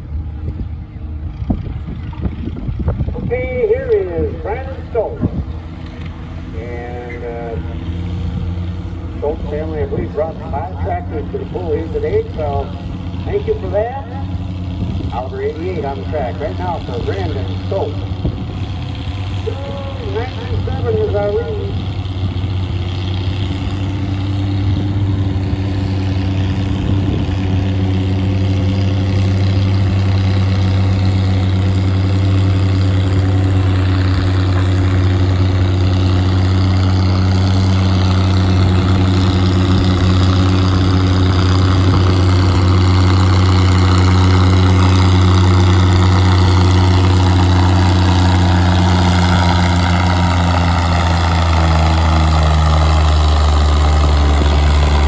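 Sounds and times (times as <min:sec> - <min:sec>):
tractor engine under heavy load: 0:00.0 - 0:55.0.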